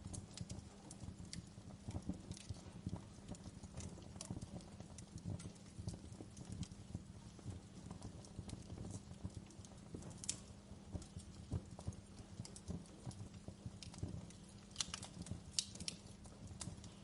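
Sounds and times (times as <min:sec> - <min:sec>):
low rumble of burning: 0:00.0 - 0:17.0
wood fire crackling and popping: 0:00.0 - 0:17.0.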